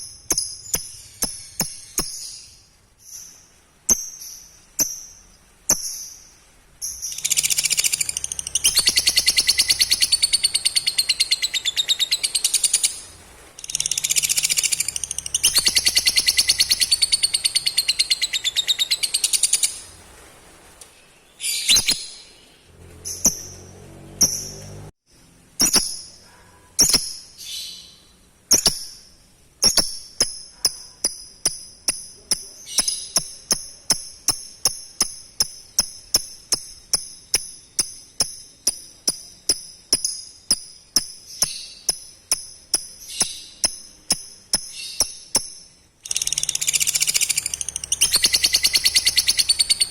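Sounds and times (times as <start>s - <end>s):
high chirps: 0.0s - 19.9s, 26.8s - 49.9s
lovebird chattering: 0.0s - 19.9s, 29.6s - 49.9s.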